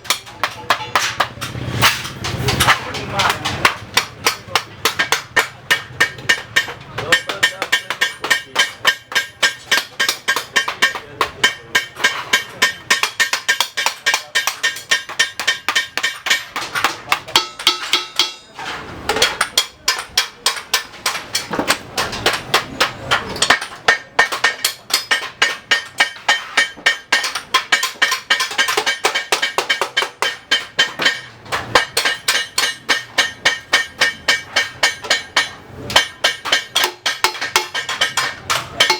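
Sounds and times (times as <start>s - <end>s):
hammer striking metal: 0.0s - 38.9s.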